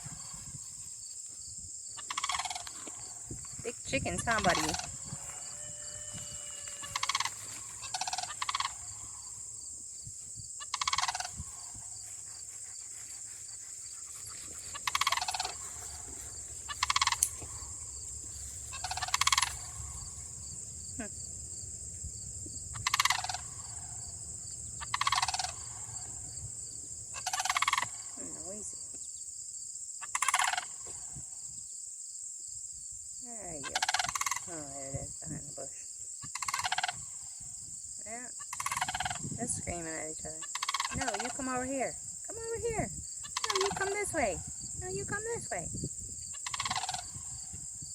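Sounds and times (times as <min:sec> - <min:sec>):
cranes calling: 0:00.0 - 0:00.9, 0:02.0 - 0:29.0, 0:30.0 - 0:31.4, 0:33.5 - 0:34.9, 0:36.2 - 0:45.7, 0:46.3 - 0:47.8.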